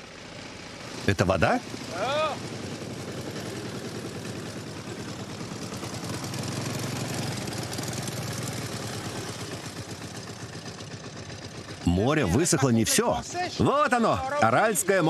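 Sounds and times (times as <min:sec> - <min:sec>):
small vehicle engine running: 0:00.0 - 0:15.0.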